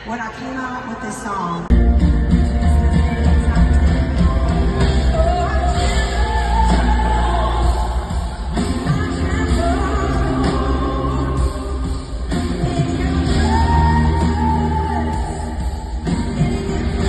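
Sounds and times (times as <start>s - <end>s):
live band playing: 1.6s - 17.0s
heavy bass: 1.7s - 17.0s
woman singing: 2.4s - 17.0s.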